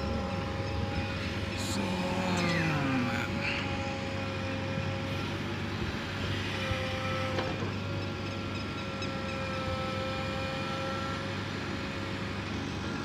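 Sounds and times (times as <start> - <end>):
diesel engine running: 0.0 - 13.0
high hydraulic whine: 0.0 - 13.0.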